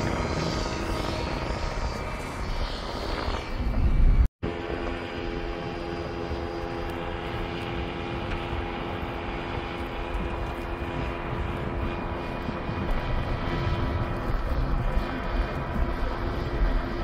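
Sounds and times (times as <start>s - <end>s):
paramotor engine droning: 0.0s - 17.0s.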